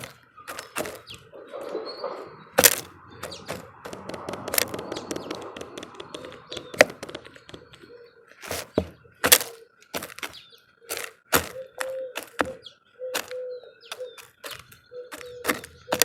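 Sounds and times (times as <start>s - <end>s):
birds pecking at feeder: 0.0s - 16.0s.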